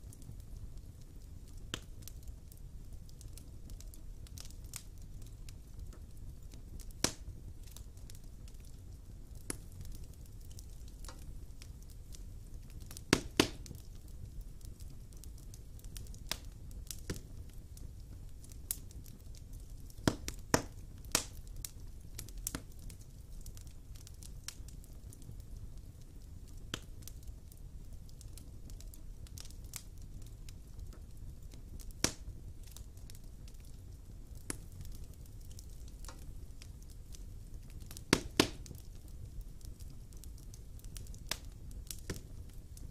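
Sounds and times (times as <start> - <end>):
wood fire burning: 0.0 - 42.9
loud pops from fire: 0.1 - 42.9.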